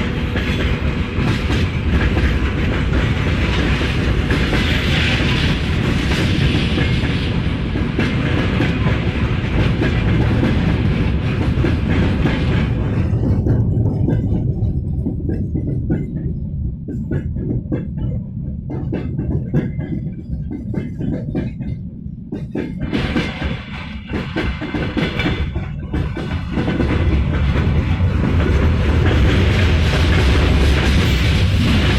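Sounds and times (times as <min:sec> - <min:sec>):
wheels clicking over rail joints: 0:00.0 - 0:31.1
freight train rumbling past: 0:00.0 - 0:31.9.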